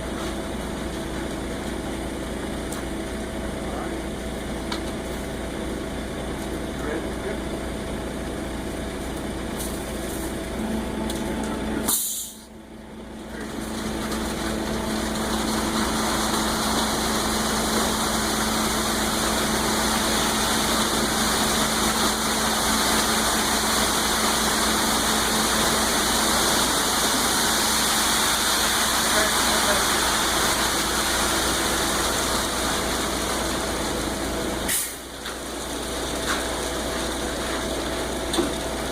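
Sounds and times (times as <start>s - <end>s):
truck engine drone: 0.0s - 38.9s.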